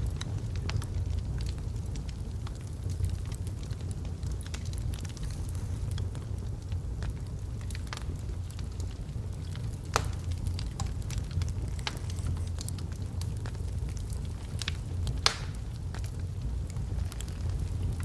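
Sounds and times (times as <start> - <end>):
logs crackling in fireplace: 0.0 - 18.0
low rumble of flames: 0.0 - 18.0
sharp pops of fire: 0.0 - 18.0.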